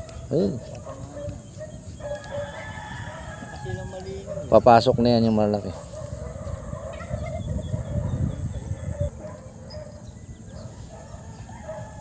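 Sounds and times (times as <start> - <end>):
distant chicken calls: 0.0 - 4.8, 5.8 - 12.0
wind rumbling on microphone: 0.0 - 12.0.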